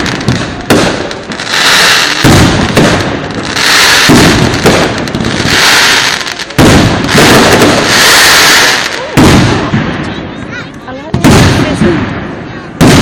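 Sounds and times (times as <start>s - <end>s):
fireworks banging: 0.0s - 13.0s
fireworks crackling hiss: 0.0s - 13.0s.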